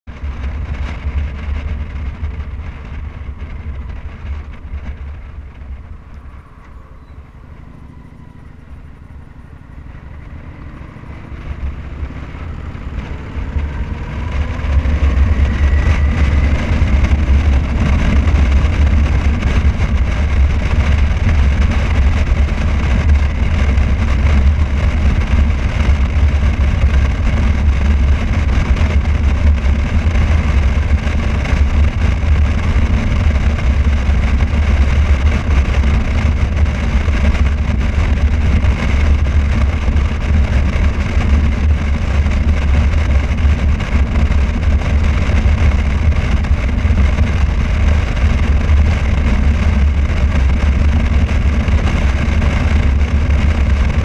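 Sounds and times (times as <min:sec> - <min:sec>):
rising vehicle whine: 0:00.0 - 0:54.0
road and wind noise rumble: 0:00.0 - 0:54.0.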